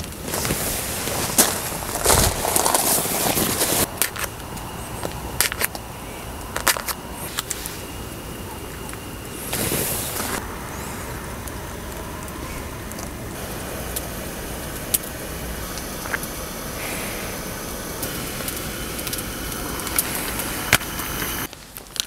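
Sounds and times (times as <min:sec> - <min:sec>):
gas stove burner hissing: 0:00.0 - 0:21.8.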